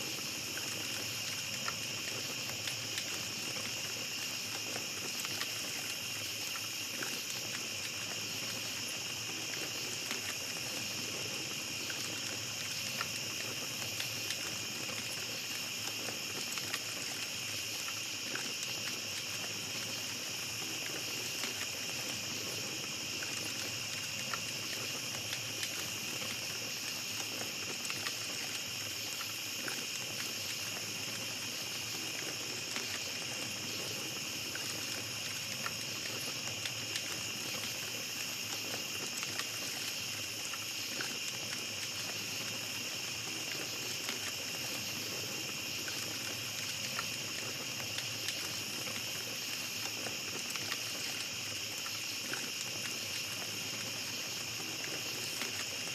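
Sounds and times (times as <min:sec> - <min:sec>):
campfire crackling and popping: 0:00.0 - 0:55.9
night insects chirring: 0:00.0 - 0:55.9.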